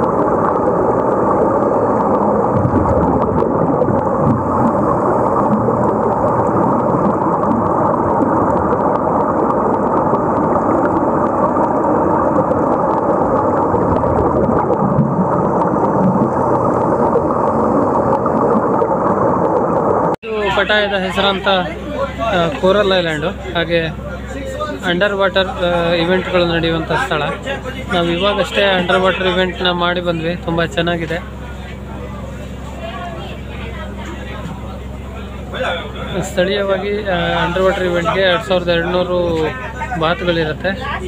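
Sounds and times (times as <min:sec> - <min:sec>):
air bubbles underwater: 0:00.0 - 0:41.0.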